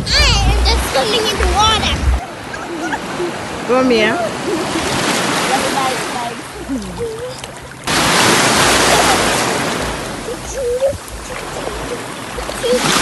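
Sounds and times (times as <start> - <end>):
small waves breaking: 0.0 - 13.0.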